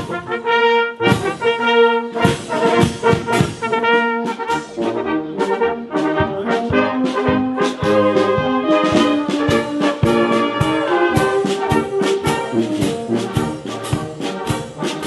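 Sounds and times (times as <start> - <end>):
brass band playing lively tune: 0.0 - 15.0.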